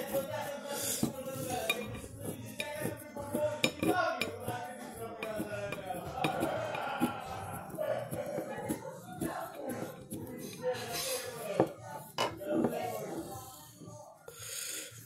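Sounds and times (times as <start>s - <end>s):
pick-hammer scraping and tapping plaster: 0.0s - 13.2s.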